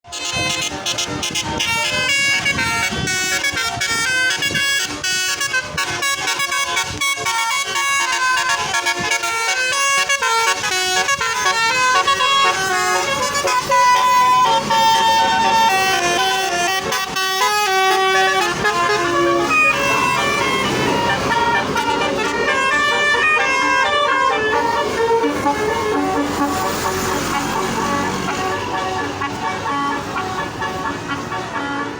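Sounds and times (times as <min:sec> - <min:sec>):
musical bus horns playing melodies: 0:00.0 - 0:31.9.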